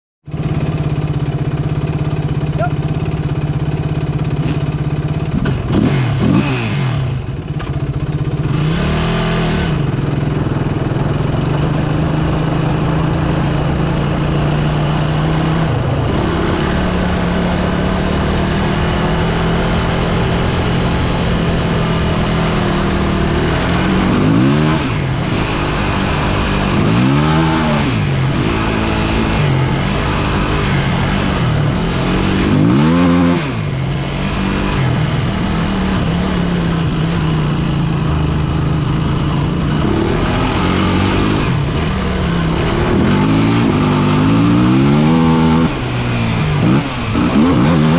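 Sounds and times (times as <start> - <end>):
off-road vehicle engine revving: 2.0 - 47.9.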